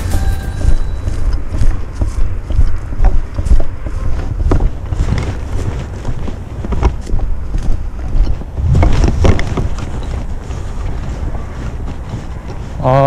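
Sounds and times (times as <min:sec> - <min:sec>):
footsteps through dry grass: 0:00.0 - 0:13.0
wind rumbling on microphone: 0:00.0 - 0:13.0.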